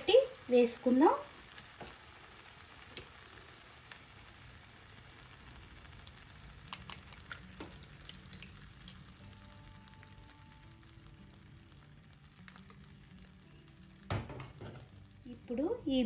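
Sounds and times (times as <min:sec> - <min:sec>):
food sizzling in a pan: 0:00.0 - 0:16.0
sharp pops and crackles: 0:01.3 - 0:15.3.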